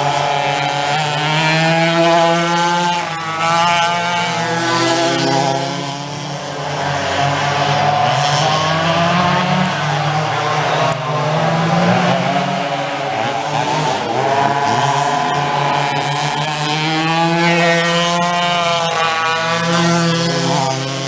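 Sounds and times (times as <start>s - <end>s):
two-stroke kart engines racing: 0.0s - 21.0s.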